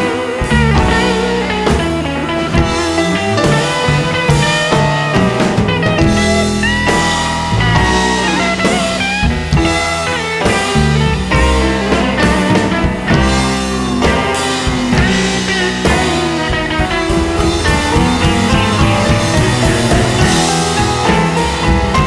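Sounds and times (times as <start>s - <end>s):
rock music with electric guitar: 0.0s - 22.0s.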